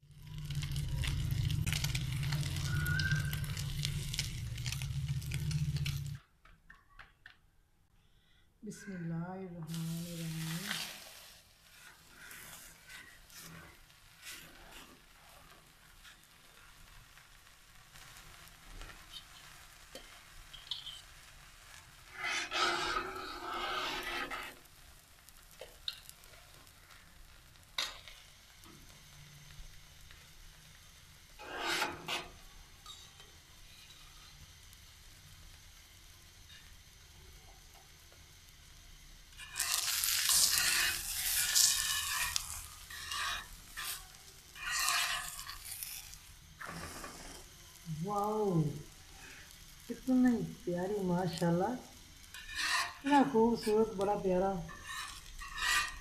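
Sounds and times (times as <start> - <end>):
flatbread sizzling on griddle: 0.0 - 6.2, 8.8 - 56.0.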